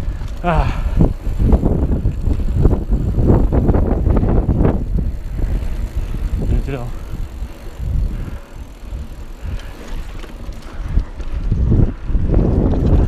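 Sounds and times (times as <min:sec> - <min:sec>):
mountain bike riding: 0:00.0 - 0:13.0
wind on microphone: 0:00.0 - 0:13.0.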